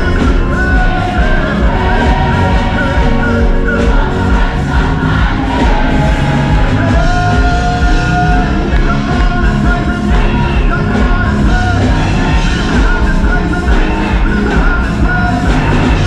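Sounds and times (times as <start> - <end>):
children's choir singing: 0.0 - 16.0
drums: 0.0 - 16.0
keyboards: 0.0 - 16.0
man singing lead: 0.0 - 16.0.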